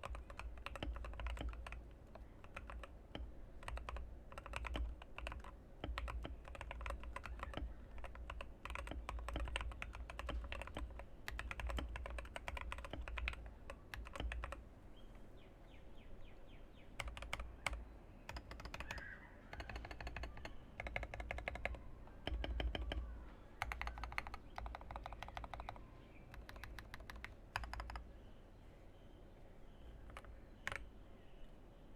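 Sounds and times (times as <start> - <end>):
mechanical keyboard typing: 0.0 - 14.6, 17.0 - 28.1, 30.0 - 30.9.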